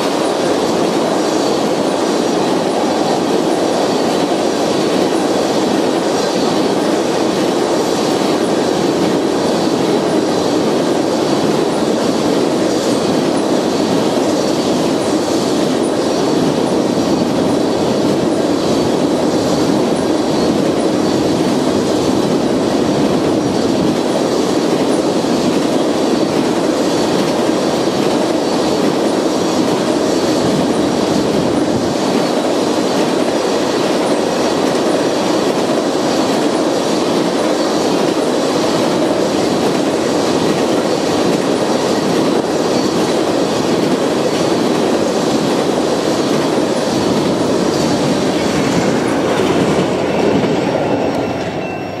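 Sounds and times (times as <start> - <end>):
train wheels rumbling and rattling: 0.0 - 52.0.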